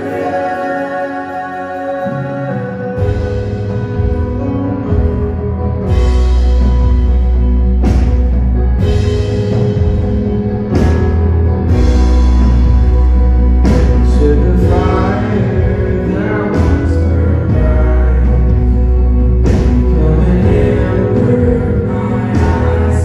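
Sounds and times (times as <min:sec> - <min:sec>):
drum kit: 0:00.0 - 0:23.0
electric bass: 0:00.0 - 0:23.0
keyboard chords: 0:00.0 - 0:23.0.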